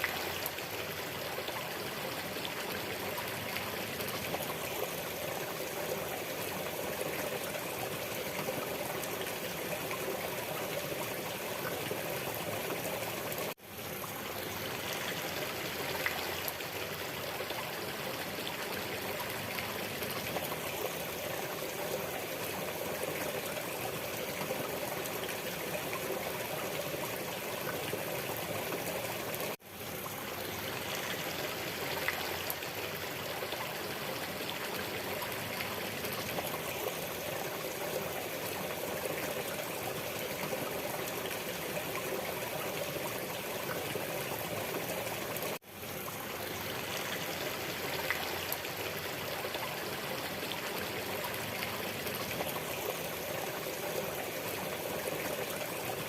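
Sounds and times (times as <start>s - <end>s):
waterfall flowing and splashing: 0.0s - 56.0s.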